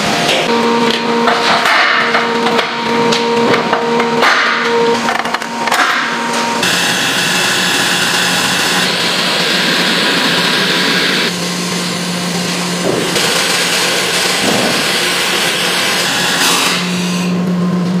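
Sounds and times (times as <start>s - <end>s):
machinery hum: 0.0s - 18.0s.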